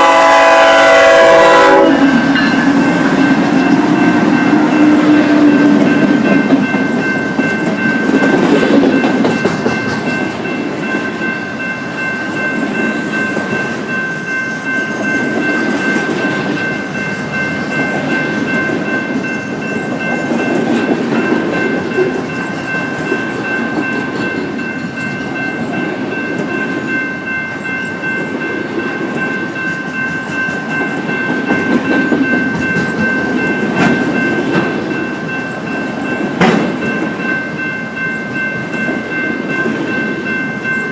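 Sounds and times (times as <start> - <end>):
steady high ringing tone: 0.0 - 40.9
train wheels clacking on rails: 0.0 - 40.9.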